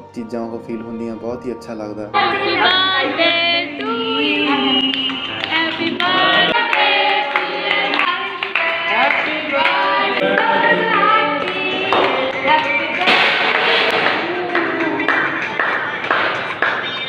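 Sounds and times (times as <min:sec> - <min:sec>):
song with singing voices: 0:00.6 - 0:17.0.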